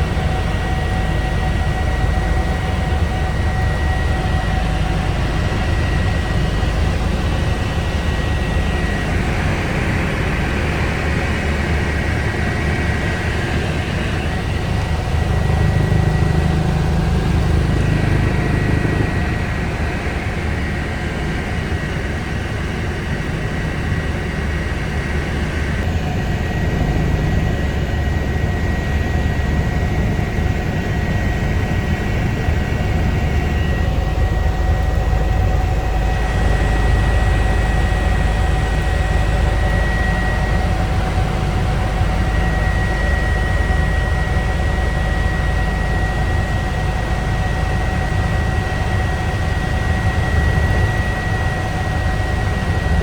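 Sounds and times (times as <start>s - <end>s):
helicopter rotor rumble: 0.0s - 53.0s
turbine whine: 0.0s - 53.0s.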